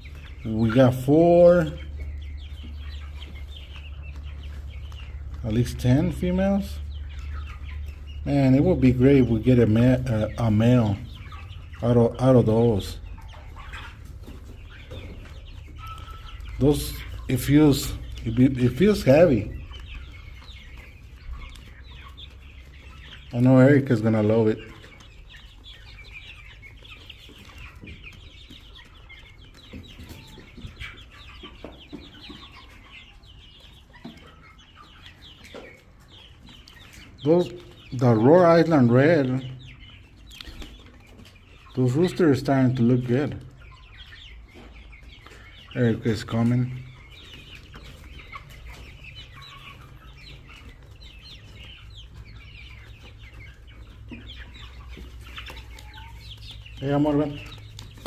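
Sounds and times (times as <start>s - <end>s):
chicks peeping and clucking: 0.0s - 58.0s.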